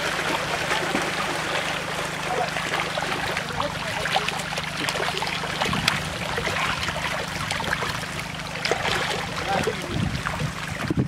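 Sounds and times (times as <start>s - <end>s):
fish splashing in shallow water: 0.0s - 11.0s
steady low hum: 0.0s - 11.0s.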